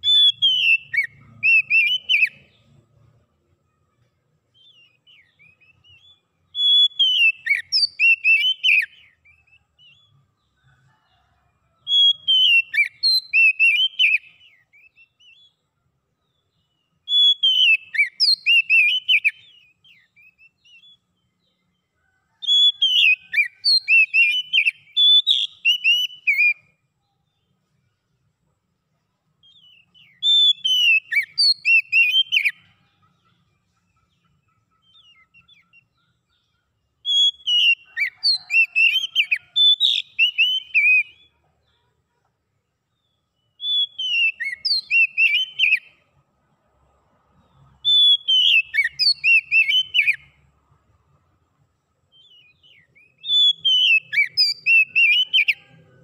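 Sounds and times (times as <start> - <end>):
bird singing whistled notes: 0.0 - 3.2, 4.4 - 27.9, 29.3 - 41.4, 42.9 - 46.2, 47.3 - 50.4, 52.1 - 56.0.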